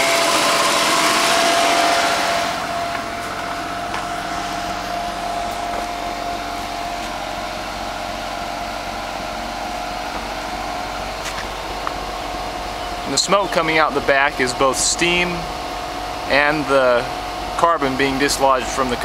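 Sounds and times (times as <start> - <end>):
car engine running with whine: 0.0 - 19.0
tailpipe blowing steam: 0.0 - 19.0.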